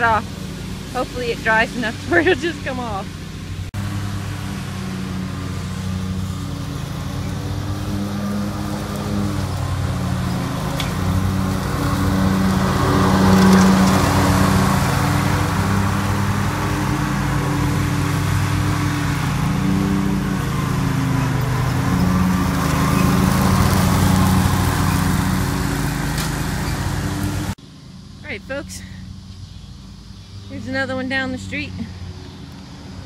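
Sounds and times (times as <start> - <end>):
riding mower engine running: 0.0 - 33.0.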